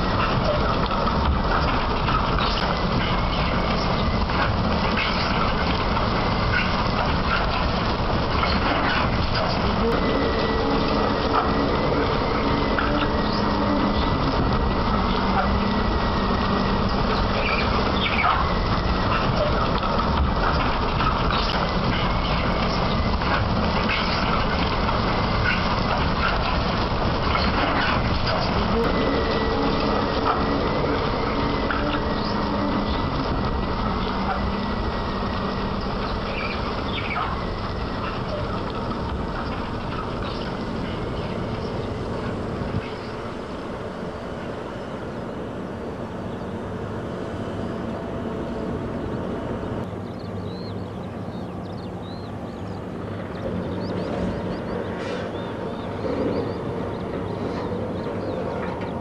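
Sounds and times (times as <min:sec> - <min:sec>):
excavator mechanical rumble: 0:00.0 - 0:59.0.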